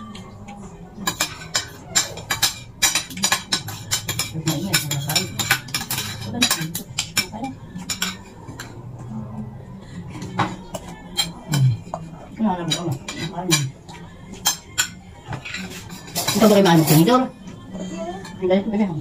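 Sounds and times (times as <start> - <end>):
cutlery clinking and scraping on plates: 0.1 - 9.1, 10.0 - 18.9.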